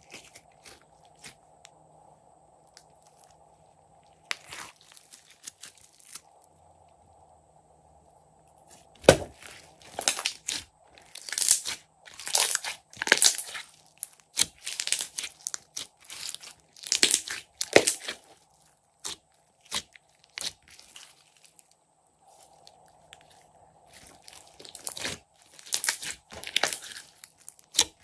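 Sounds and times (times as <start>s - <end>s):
wet slime squishing: 0.0s - 1.6s, 4.1s - 6.5s, 8.6s - 28.0s.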